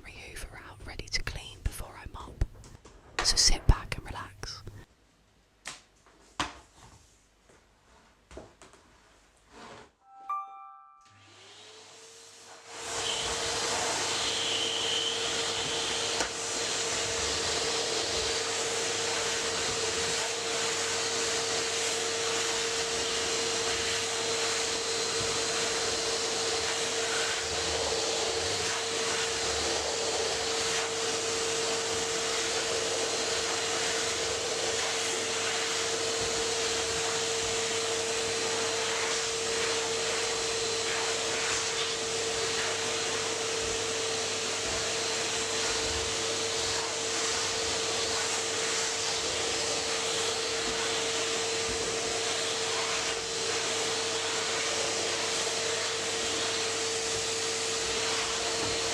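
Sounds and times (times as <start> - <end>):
vacuum cleaner running: 11.1 - 58.9.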